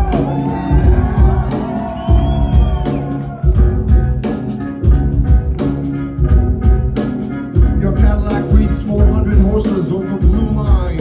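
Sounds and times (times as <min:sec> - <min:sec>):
heavy bass notes: 0:00.0 - 0:11.0
live band instrumental groove: 0:00.0 - 0:11.0.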